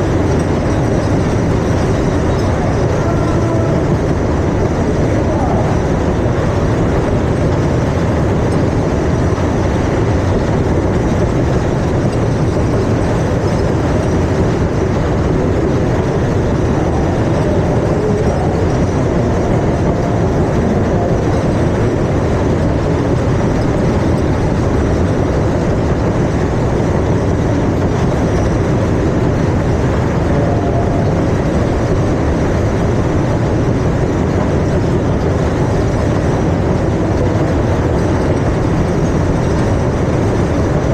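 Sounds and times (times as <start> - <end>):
ride rumbling: 0.0 - 40.9.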